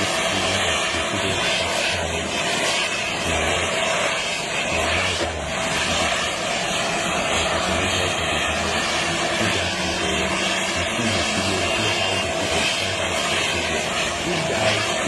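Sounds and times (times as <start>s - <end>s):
aircraft engines running: 0.0s - 15.0s.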